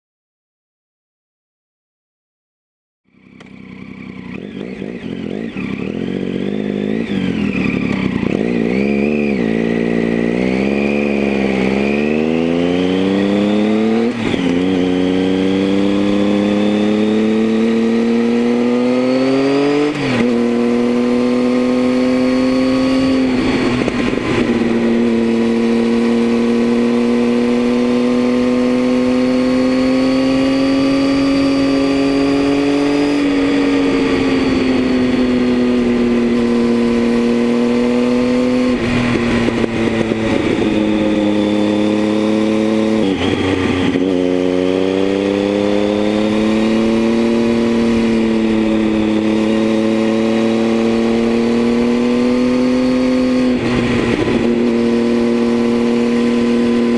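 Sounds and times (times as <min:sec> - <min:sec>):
motorcycle engine accelerating: 0:03.1 - 0:56.9.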